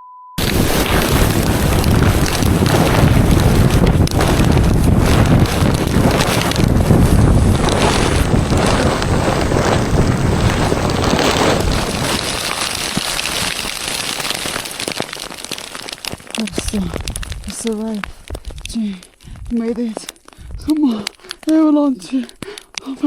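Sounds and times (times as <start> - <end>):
wind buffeting microphone: 0.4 - 15.1, 15.8 - 21.1.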